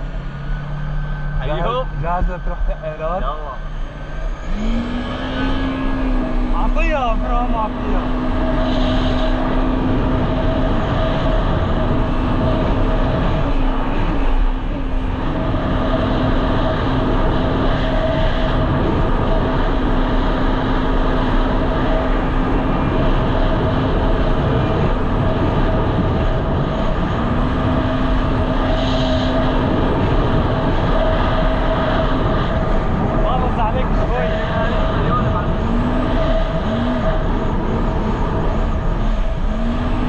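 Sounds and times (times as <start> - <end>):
jet ski engine running: 0.0 - 40.0.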